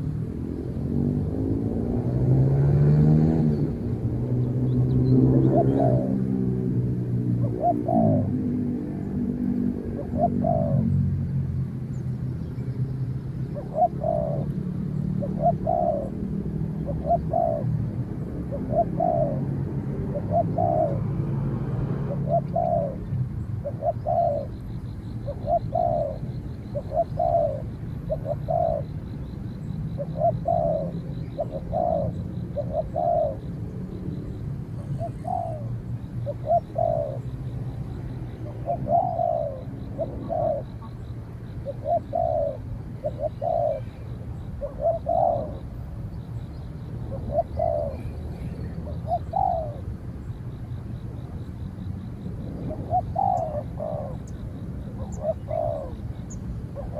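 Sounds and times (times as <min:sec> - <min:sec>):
doves cooing: 0:00.0 - 0:12.0, 0:13.3 - 0:56.9.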